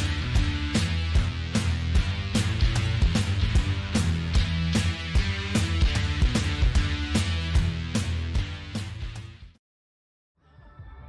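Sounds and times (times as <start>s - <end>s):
background music with guitar and beat: 0.0s - 9.6s.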